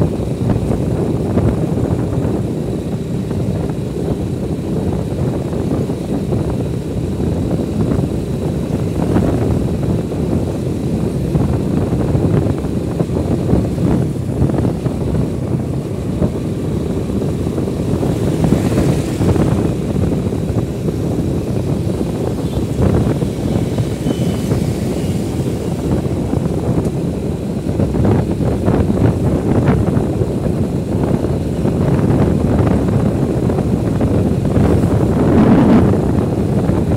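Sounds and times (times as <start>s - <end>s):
motorcycle road noise: 0.0s - 36.9s
wind rushing on microphone: 0.0s - 36.9s.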